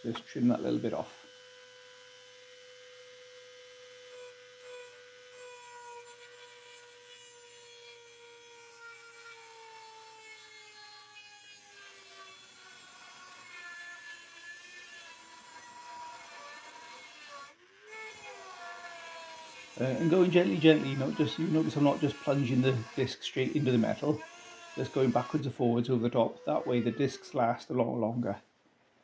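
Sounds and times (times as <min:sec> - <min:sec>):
rotary tool cutting steel: 0:00.0 - 0:27.3.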